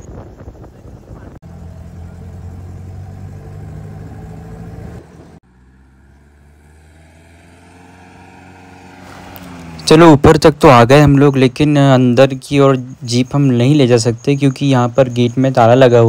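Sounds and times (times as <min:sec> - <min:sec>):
jeep engine climbing: 0:01.4 - 0:15.0.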